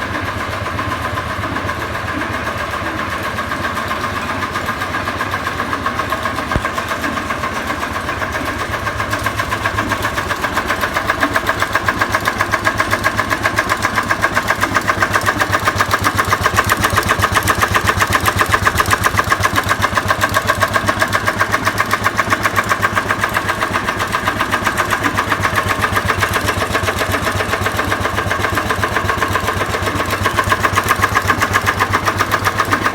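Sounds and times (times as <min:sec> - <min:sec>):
stationary engine running: 0:00.0 - 0:32.9.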